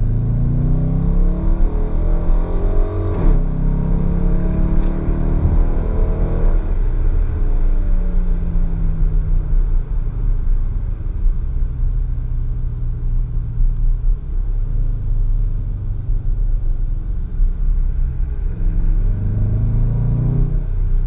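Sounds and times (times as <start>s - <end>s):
car engine cruising from inside: 0.0s - 21.0s.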